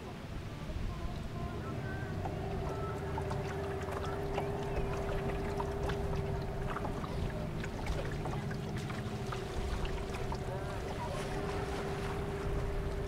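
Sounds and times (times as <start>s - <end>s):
boat motor running: 0.6s - 13.0s.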